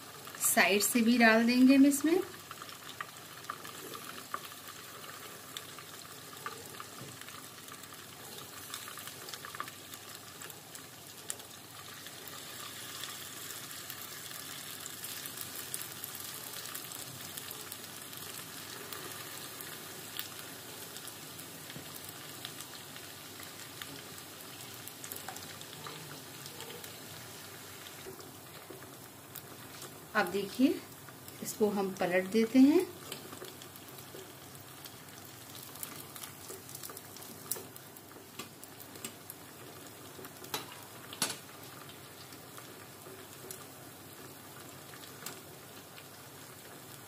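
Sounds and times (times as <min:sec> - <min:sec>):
batter sizzling in hot oil: 0:00.0 - 0:47.0.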